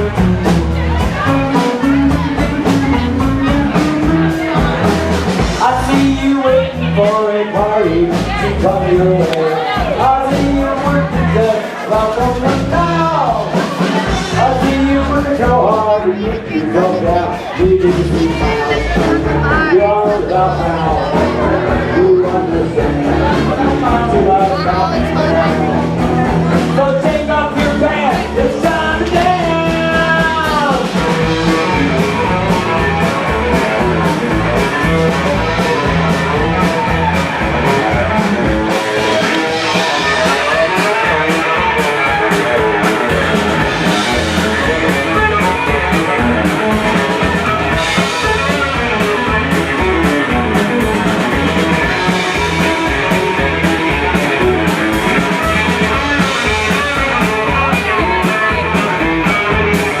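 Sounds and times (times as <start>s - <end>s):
live rock band playing: 0.0s - 60.0s.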